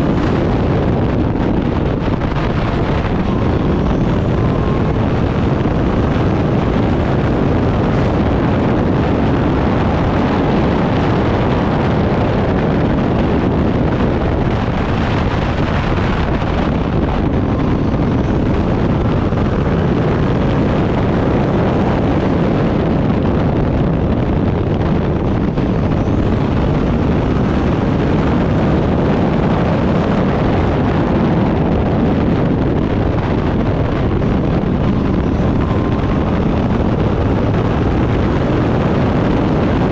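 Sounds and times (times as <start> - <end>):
race car engine running hard: 0.0 - 39.9
wind buffeting microphone: 0.0 - 39.9.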